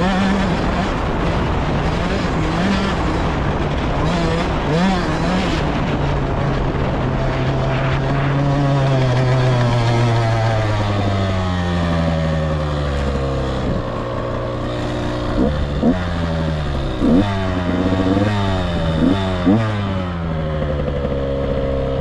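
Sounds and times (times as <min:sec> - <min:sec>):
engine running under load: 0:00.0 - 0:22.0.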